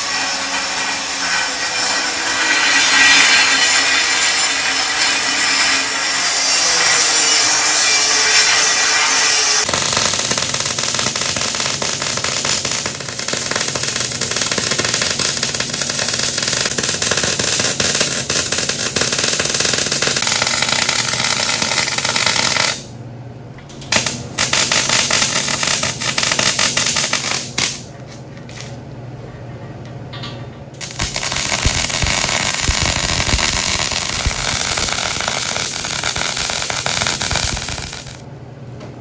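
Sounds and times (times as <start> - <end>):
welding arc crackling: 0.0 - 22.9, 23.8 - 27.9, 30.8 - 38.3.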